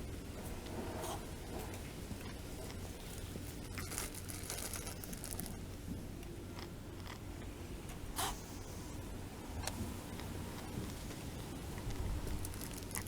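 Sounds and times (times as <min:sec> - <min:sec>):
kittens crunching cat food: 0:00.6 - 0:09.0, 0:09.6 - 0:13.0.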